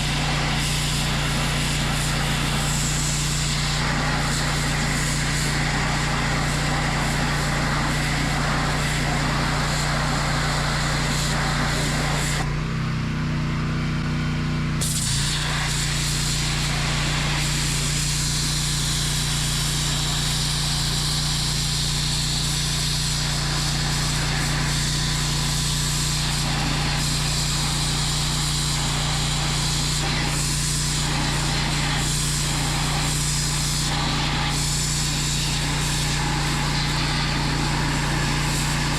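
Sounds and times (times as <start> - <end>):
high-pressure water jet hissing: 0.0 - 12.5, 14.8 - 38.9
pressure washer running: 0.0 - 38.9.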